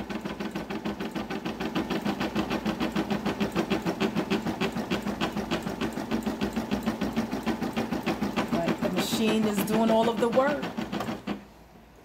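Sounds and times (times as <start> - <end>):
embroidery machine stitching: 0.0 - 11.5.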